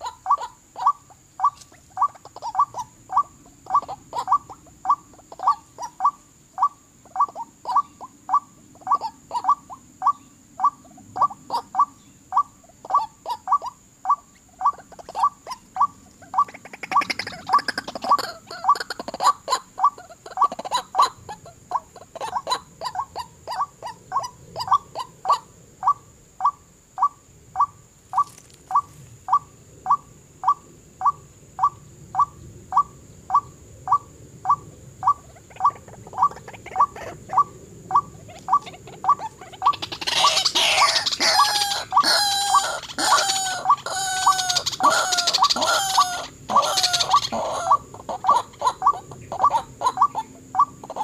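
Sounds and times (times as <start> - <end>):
bird harsh croaking calls: 0.0 - 51.0.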